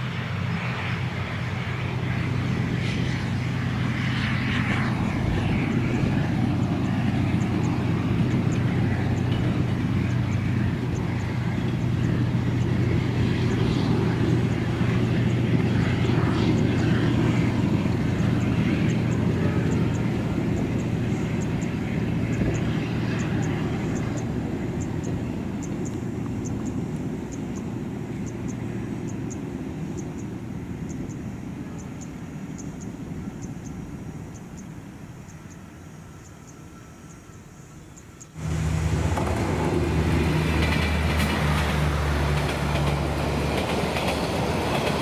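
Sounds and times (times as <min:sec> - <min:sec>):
diesel train engine drone: 0:00.0 - 0:45.0
train wheel noise: 0:00.0 - 0:45.0.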